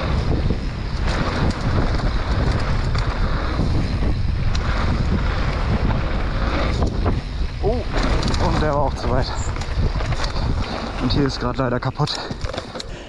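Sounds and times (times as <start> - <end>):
bike tyres rolling on dirt: 0.0 - 13.0
wind buffeting microphone: 0.0 - 13.0.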